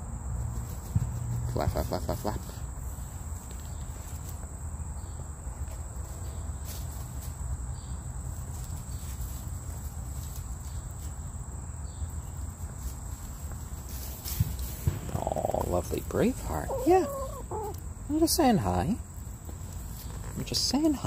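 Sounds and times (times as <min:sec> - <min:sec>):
insects trilling: 0:00.0 - 0:21.0
chickens scratching in dry leaves: 0:00.6 - 0:04.5, 0:05.5 - 0:11.4, 0:12.2 - 0:21.0.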